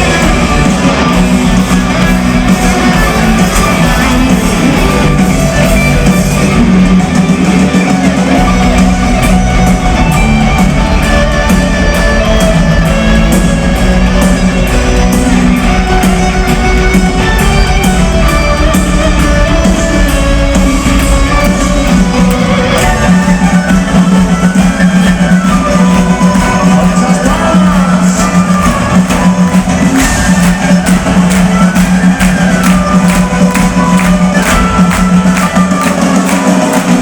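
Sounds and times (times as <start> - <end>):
electric guitars: 0.0 - 37.0
steady drum beat: 0.0 - 37.0.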